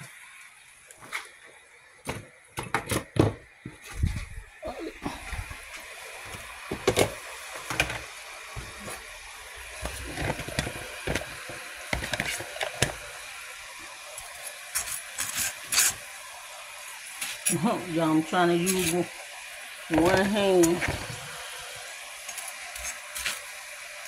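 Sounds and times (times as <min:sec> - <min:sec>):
steady hiss: 0:03.6 - 0:24.0.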